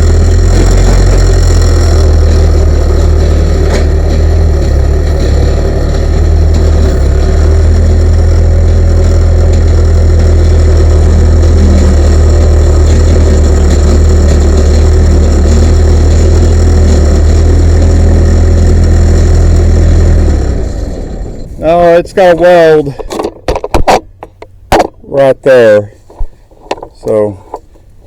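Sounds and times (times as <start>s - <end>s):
skid steer engine idling: 0.0s - 28.0s.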